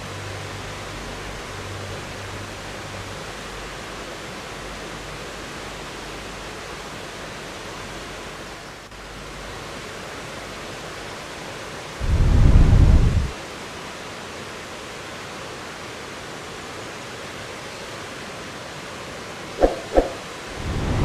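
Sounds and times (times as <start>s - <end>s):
river water rushing: 0.0s - 12.0s, 13.4s - 21.0s.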